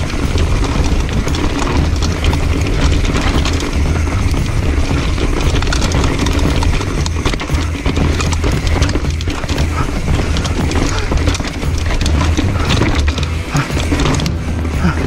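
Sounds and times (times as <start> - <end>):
mountain bike rattling over rocks: 0.0 - 15.0.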